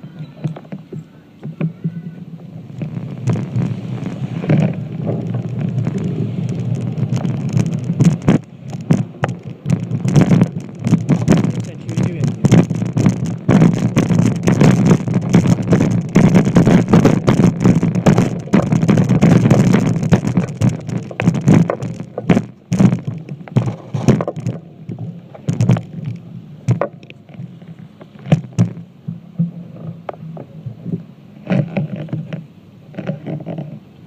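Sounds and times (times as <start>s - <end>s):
knocks and clicks: 0.0s - 30.5s
boat engine running: 0.0s - 34.0s.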